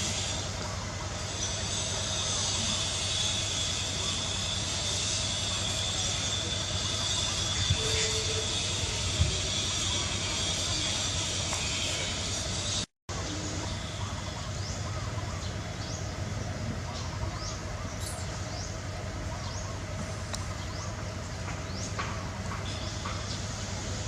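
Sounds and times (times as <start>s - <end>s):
outdoor background hum: 0.0s - 24.0s.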